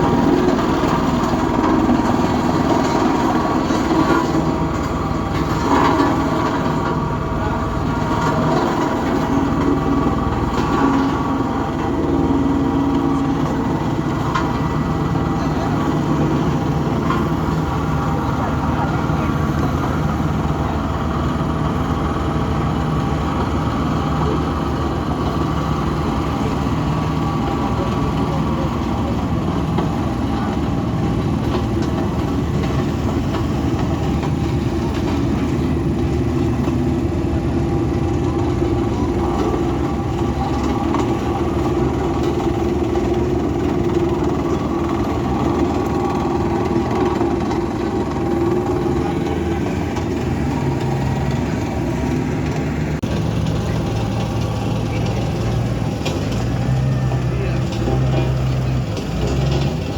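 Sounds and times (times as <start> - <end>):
diesel engines rumbling: 0.0 - 59.9.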